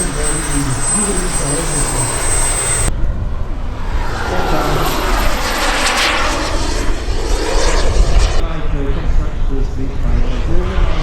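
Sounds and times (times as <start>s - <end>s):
model aircraft engine flying past: 0.0s - 11.0s.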